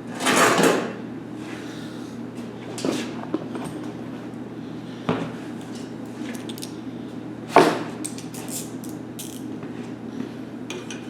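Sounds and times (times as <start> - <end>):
steady low hum: 1.0 - 11.0.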